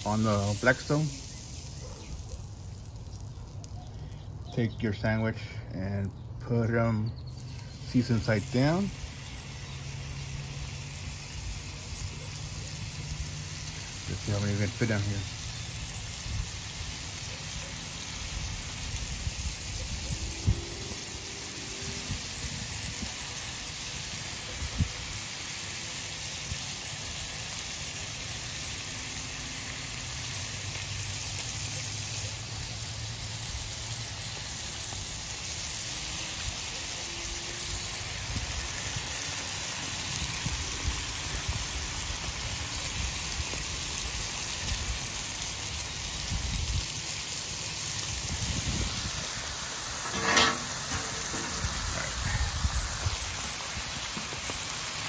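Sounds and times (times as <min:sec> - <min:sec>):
food sizzling on griddle: 0:00.0 - 0:55.0.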